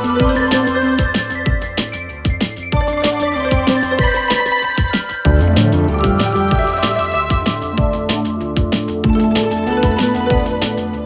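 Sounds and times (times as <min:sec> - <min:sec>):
electronic drum music: 0:00.0 - 0:11.0.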